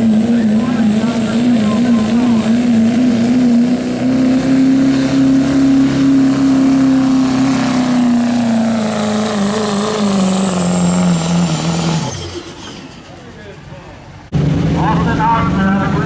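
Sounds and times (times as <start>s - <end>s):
diesel engine at full throttle: 0.0s - 16.0s.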